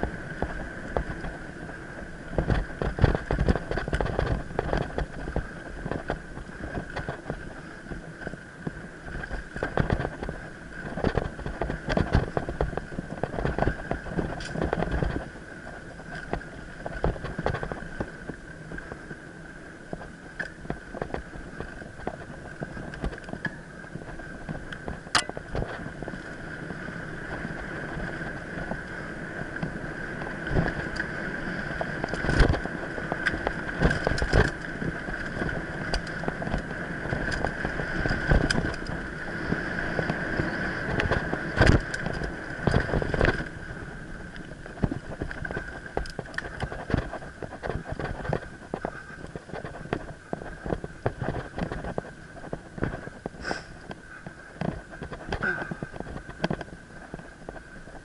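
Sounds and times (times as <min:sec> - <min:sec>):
bike rattling over bumps: 0:00.0 - 0:58.0
bike tyre and drivetrain noise: 0:00.0 - 0:58.0.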